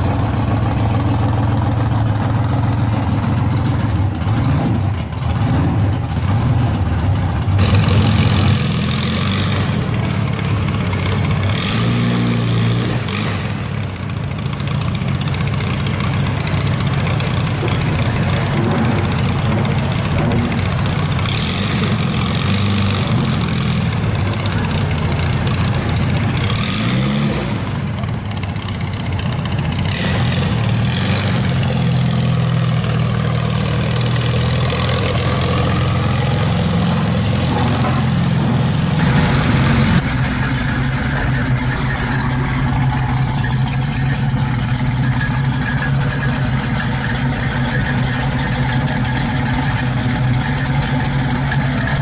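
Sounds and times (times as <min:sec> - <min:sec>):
loud car engine: 0:00.0 - 0:52.0
tractor engine idling: 0:00.0 - 0:52.0.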